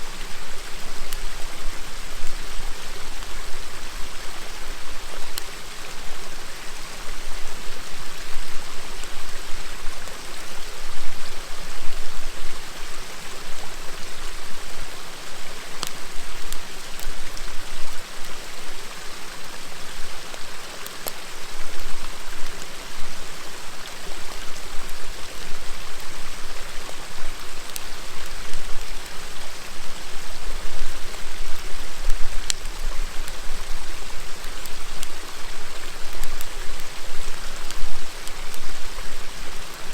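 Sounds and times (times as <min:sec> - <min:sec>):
campfire crackling: 0:00.0 - 0:39.9
river water flowing: 0:00.0 - 0:39.9.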